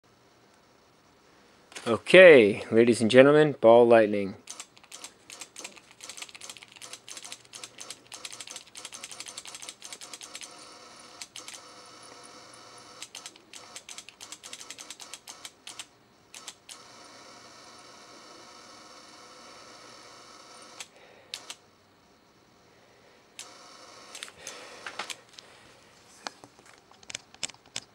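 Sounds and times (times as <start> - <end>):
steady electrical hum: 0.0 - 27.9.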